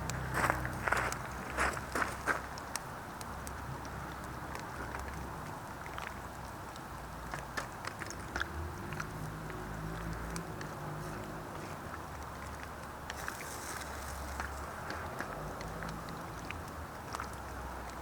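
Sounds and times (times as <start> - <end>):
faint clicks and ticks: 0.0 - 18.0.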